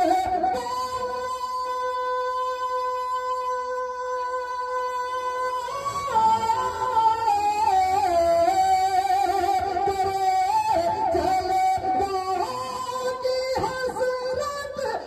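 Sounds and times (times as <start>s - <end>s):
man singing through loudspeakers: 0.0s - 15.0s.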